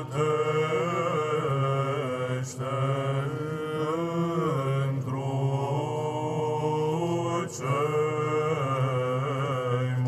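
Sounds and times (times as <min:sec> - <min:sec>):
men's choir chanting: 0:00.0 - 0:10.0.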